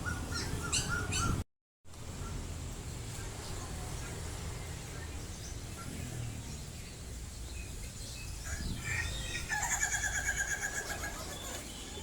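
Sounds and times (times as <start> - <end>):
caged birds chirping: 0.0 - 1.4, 2.1 - 12.0.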